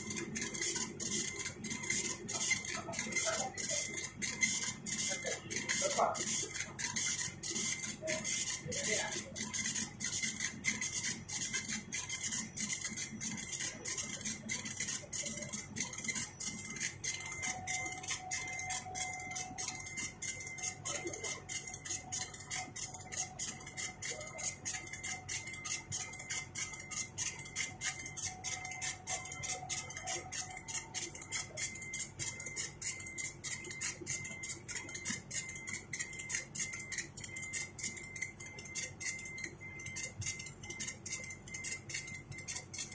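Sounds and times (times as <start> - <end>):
cnc machine ticking: 0.0 - 42.9
high machine whine: 0.0 - 42.9.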